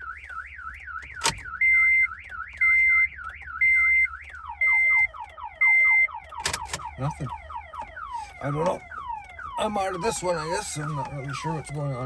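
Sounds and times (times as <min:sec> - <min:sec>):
car alarm siren warbling: 0:00.0 - 0:12.0.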